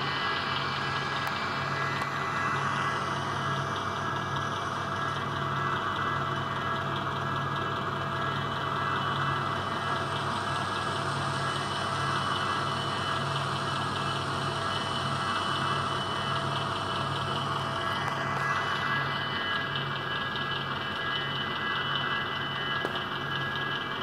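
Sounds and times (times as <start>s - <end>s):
diesel engine idle through small speaker: 0.0s - 24.0s.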